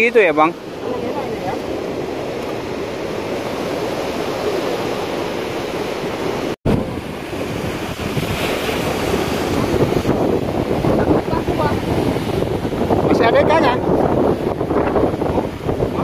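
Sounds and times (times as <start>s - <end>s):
sea waves breaking on rocks: 0.0s - 16.0s
wind buffeting microphone: 0.0s - 16.0s.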